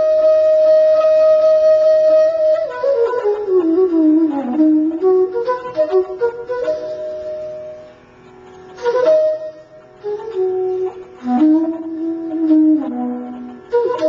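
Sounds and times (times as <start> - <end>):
bamboo flute playing slowly: 0.0 - 14.0.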